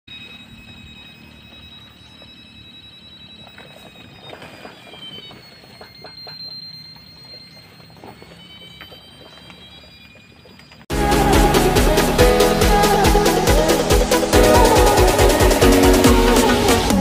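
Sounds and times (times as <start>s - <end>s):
steady high electronic tone: 0.1s - 17.0s.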